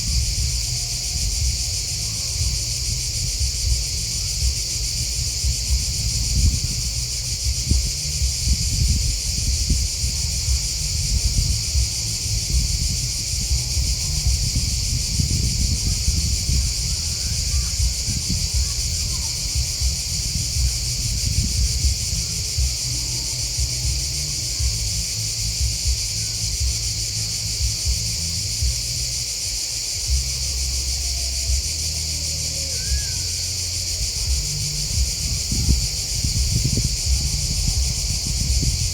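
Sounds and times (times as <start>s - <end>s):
grasshoppers and crickets chirping: 0.0s - 38.9s
uneven low rumble: 0.0s - 38.9s.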